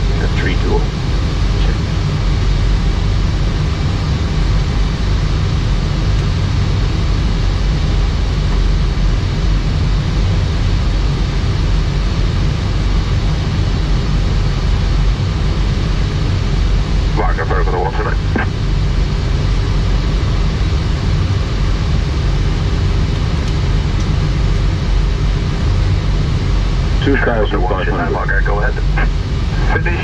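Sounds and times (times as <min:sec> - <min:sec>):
airflow and engine rush: 0:00.0 - 0:30.0.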